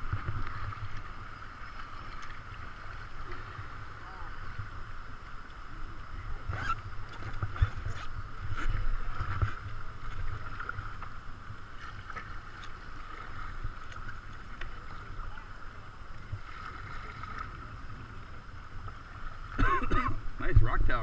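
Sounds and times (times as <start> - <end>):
wind on microphone: 0.0 - 19.4
paddle strokes splashing: 0.0 - 19.6
water rushing around kayak hull: 0.0 - 21.0.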